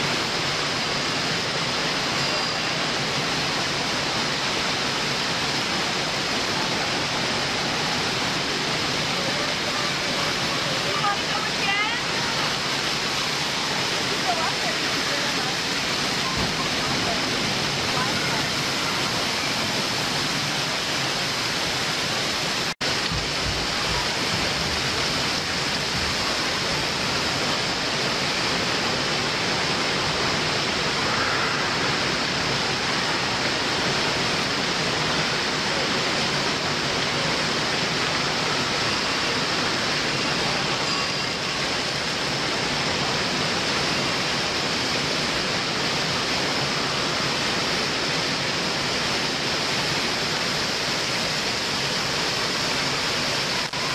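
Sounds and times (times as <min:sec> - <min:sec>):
water pouring and splashing: 0:00.0 - 0:53.9.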